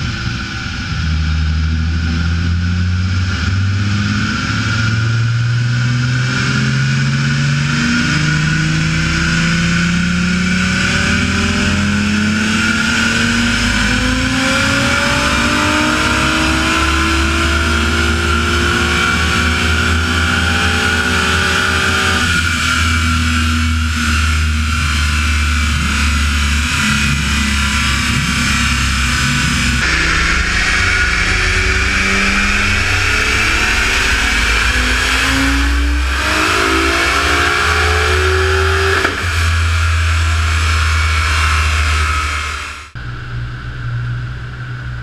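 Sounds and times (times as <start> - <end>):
car engine revving on a dynamometer: 0.0 - 45.0.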